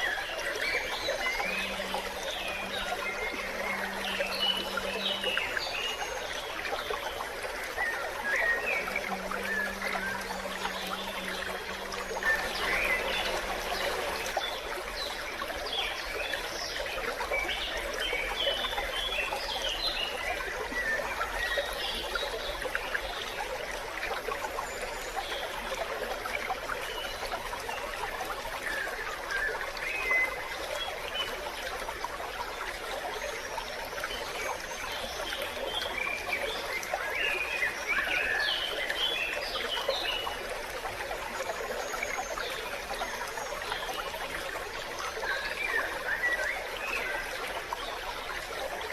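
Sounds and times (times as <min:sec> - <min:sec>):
small stream trickling: 0:00.0 - 0:48.9.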